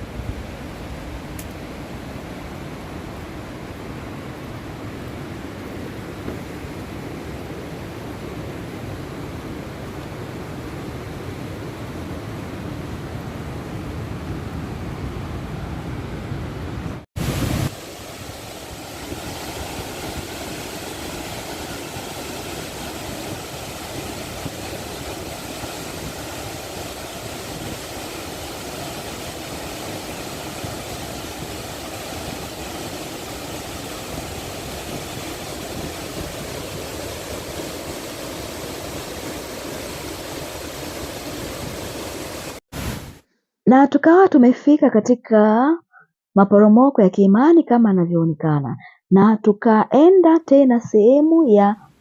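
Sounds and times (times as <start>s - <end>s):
waterfall roaring: 0.0s - 43.1s.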